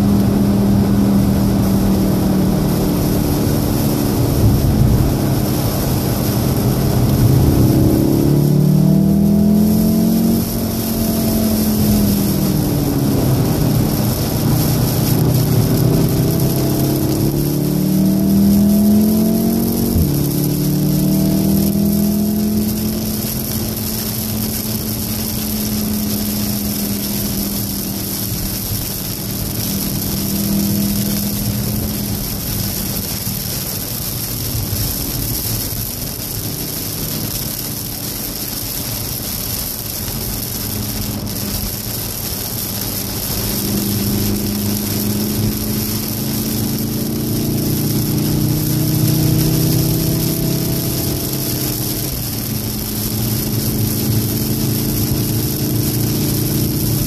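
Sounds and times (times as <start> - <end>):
car engine driven hard: 0.0 - 57.0
heavy rain hiss: 0.0 - 57.0.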